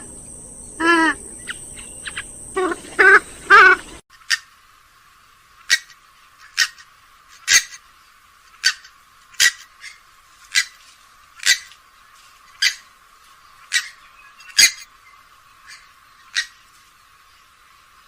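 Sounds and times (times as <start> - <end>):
swamphen calling: 0.0 - 4.5, 5.6 - 7.8, 8.5 - 11.8, 12.5 - 17.6.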